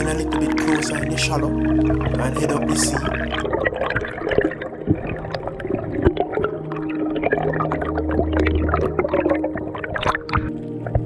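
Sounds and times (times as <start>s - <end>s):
low held music notes: 0.0s - 11.0s
underwater clicking and crackling: 0.0s - 11.0s.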